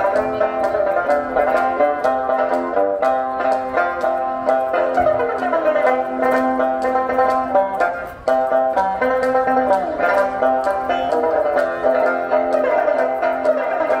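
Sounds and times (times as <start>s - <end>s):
quick plucked notes: 0.0s - 14.0s
steady held tone: 0.0s - 14.0s.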